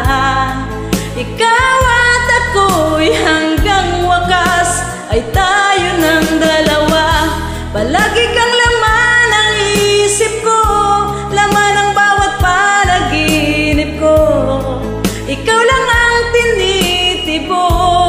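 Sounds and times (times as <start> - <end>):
karaoke backing track with bass: 0.0 - 18.0
woman singing a love ballad: 0.0 - 18.0.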